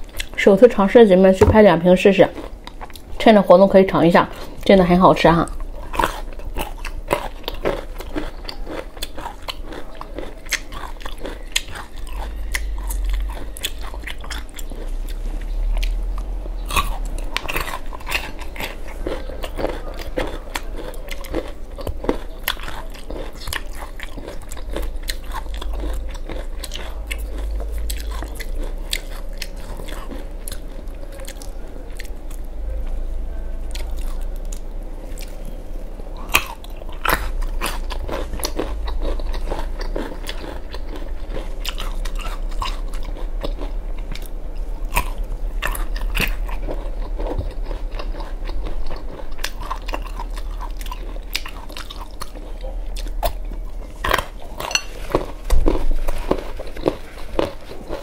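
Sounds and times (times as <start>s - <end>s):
crunching and chewing garlic: 0.0s - 58.0s.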